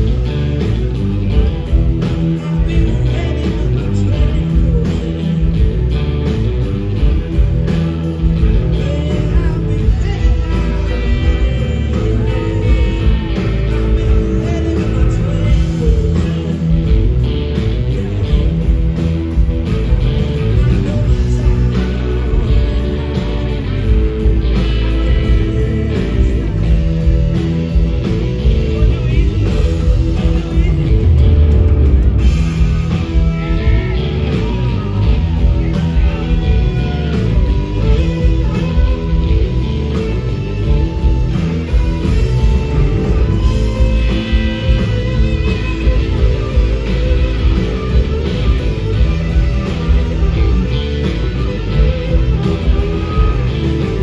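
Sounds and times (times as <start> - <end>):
bass guitar: 0.0 - 54.0
drums: 0.0 - 54.0
electric guitars: 0.0 - 54.0.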